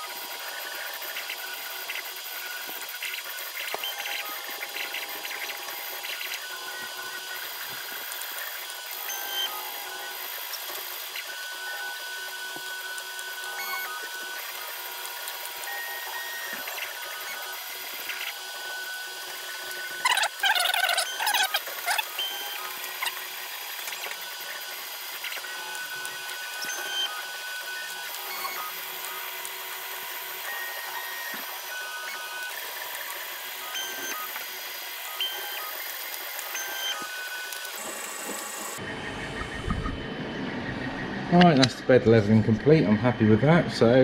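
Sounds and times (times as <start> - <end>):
stepper motors whirring: 0.0 - 43.6
fan hum and whine: 0.0 - 44.0.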